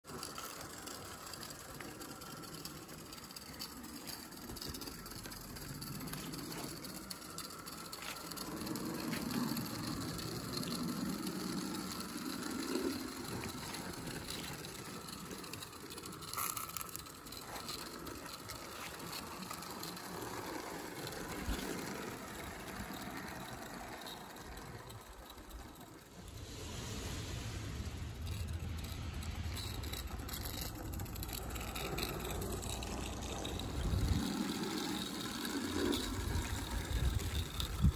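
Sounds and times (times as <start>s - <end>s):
model steam locomotive clattering: 0.0s - 37.9s.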